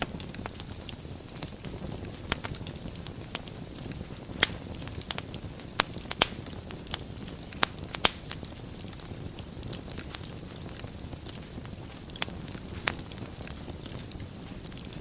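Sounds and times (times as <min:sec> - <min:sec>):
burning wood crackling and popping: 0:00.0 - 0:15.0
fire rumbling and hissing: 0:00.0 - 0:15.0.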